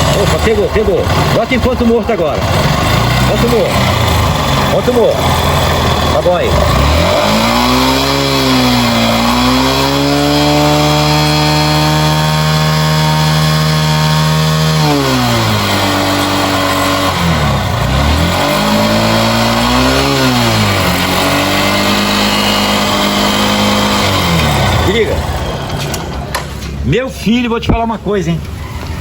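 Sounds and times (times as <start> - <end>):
motorcycle engine revving: 0.0 - 26.8.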